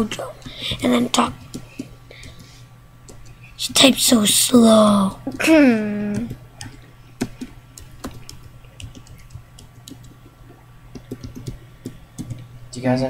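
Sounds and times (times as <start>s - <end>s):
keyboard typing: 0.0s - 3.9s, 4.8s - 12.6s.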